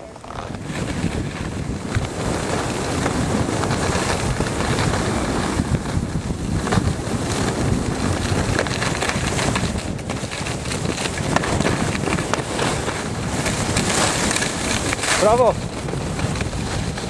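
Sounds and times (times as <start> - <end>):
skis carving packed snow: 0.0 - 17.0
wind rushing over microphone: 0.0 - 17.0.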